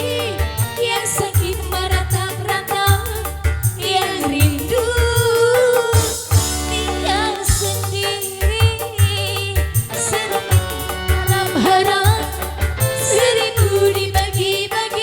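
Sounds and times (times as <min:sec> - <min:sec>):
keyboard melody: 0:00.0 - 0:14.8
bass and drum beat: 0:00.0 - 0:15.0.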